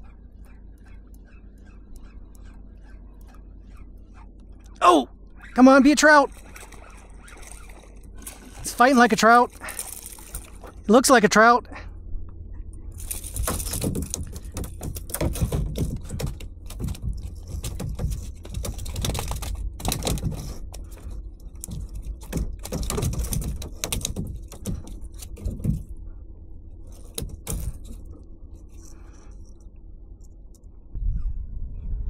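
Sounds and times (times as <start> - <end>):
steady low rumble: 0.0 - 22.7, 23.4 - 32.0.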